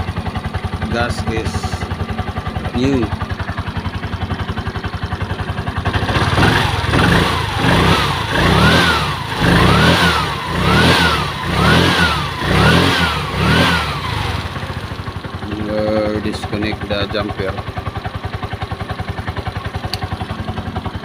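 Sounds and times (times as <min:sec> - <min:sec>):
small engine idling and revving: 0:00.0 - 0:21.0.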